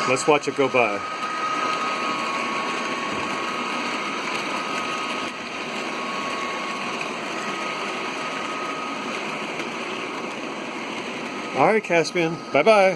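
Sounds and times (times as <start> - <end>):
electric motor whine: 0.0 - 12.9
model train wheels humming: 0.0 - 12.9.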